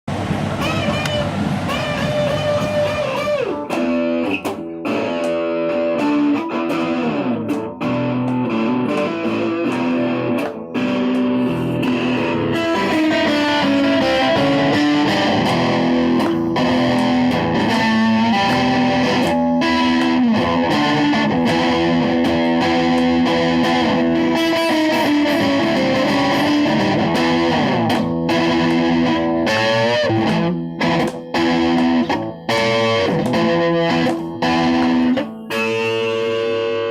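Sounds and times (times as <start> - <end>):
distorted electric guitar: 0.0 - 36.9.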